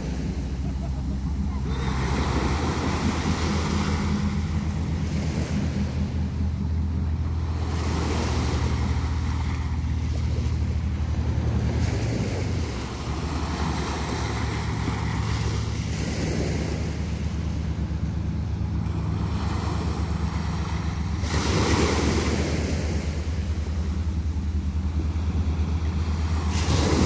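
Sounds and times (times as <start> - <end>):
boat engine drone: 0.0 - 27.0
waves washing onto sand: 0.0 - 27.0.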